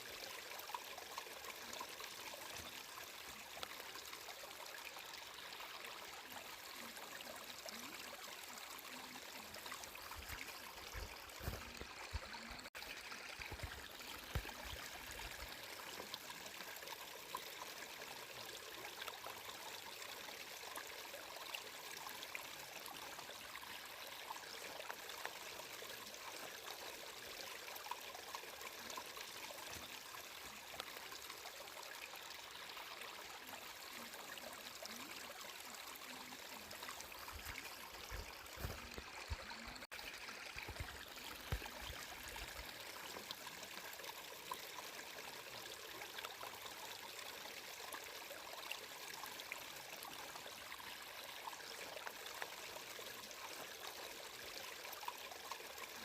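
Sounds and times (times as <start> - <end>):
water babbling and trickling: 0.0 - 56.0.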